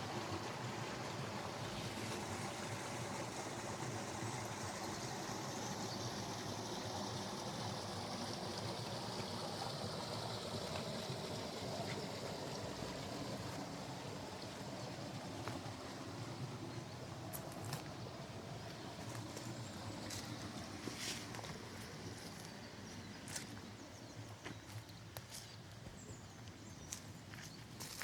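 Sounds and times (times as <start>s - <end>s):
stream of running water: 0.0s - 28.0s.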